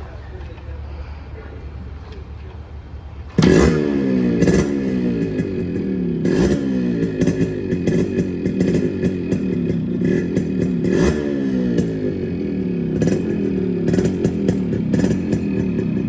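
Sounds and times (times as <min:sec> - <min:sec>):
two-stroke engine revving: 0:02.0 - 0:16.0.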